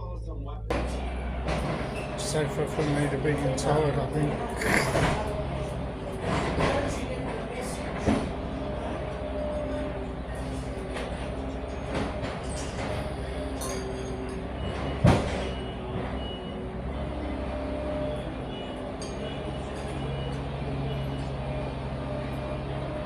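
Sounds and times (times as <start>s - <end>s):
digger engine rumbling: 0.0s - 23.0s.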